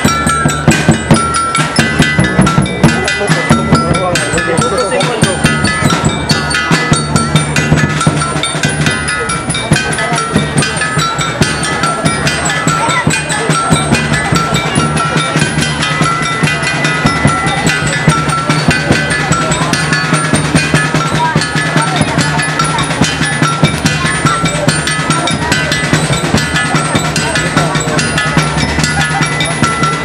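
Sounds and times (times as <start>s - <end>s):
drum-driven music: 0.0s - 30.0s.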